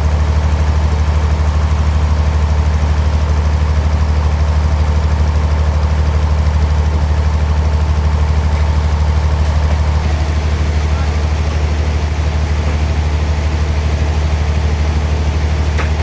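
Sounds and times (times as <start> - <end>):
sawmill engine throbbing: 0.1 - 16.0.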